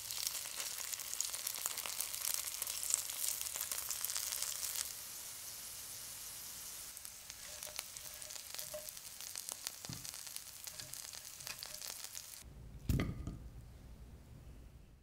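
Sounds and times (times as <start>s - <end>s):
chicken frying with crackling pops: 0.0s - 13.1s.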